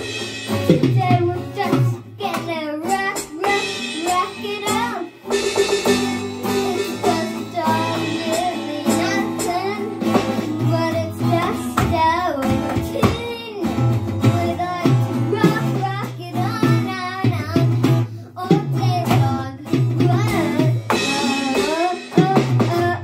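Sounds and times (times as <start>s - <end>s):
electronic drum beat: 0.0s - 23.0s
strummed acoustic guitar: 0.0s - 23.0s
child singing: 0.6s - 23.0s.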